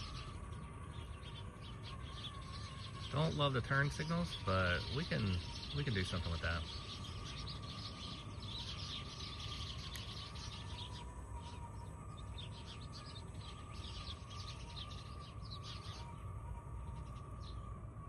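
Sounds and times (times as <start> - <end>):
faint high hum: 0.0 - 18.0
small birds chirping: 0.0 - 18.0.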